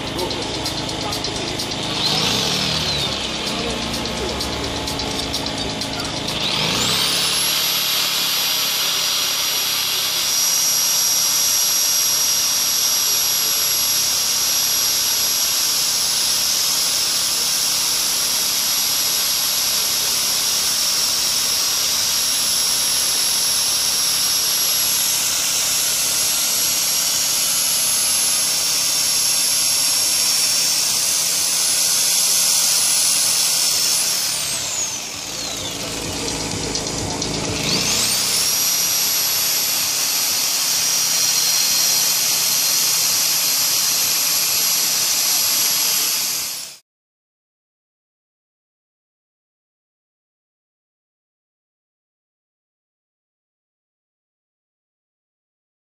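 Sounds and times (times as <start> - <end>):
power saw whining: 0.0 - 46.8.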